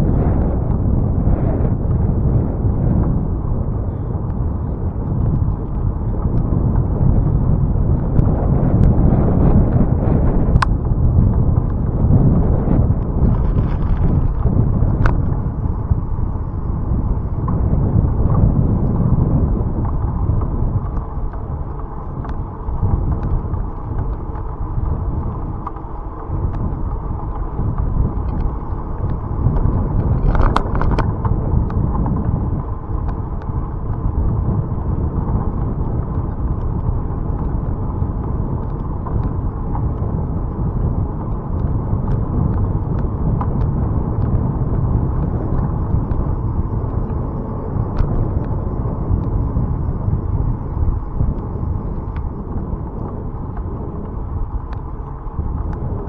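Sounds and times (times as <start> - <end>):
bicycle tyre road rumble: 0.0 - 56.0
wind buffeting microphone: 0.0 - 56.0.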